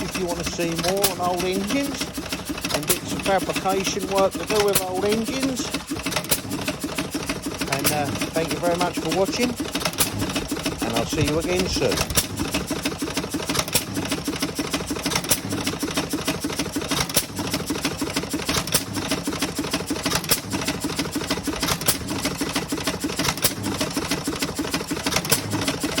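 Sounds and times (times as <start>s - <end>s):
stationary engine clattering: 0.0s - 26.0s.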